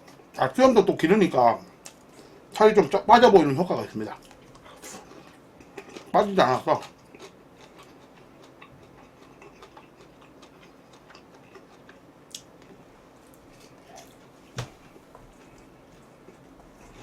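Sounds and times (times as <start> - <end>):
low room noise: 0.0 - 17.0.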